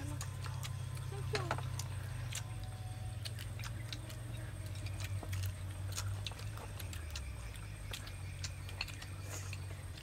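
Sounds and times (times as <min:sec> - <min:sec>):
chewing: 0:00.0 - 0:10.0
steady low hum: 0:00.0 - 0:10.0.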